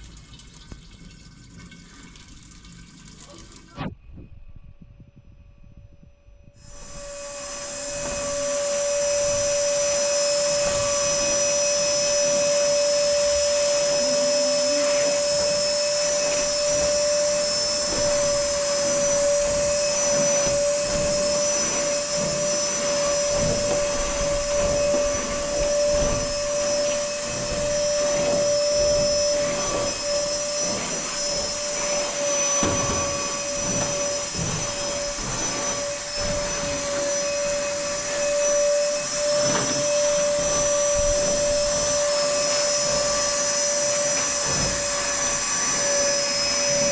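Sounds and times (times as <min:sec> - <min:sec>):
motor whining: 0:03.8 - 0:46.9.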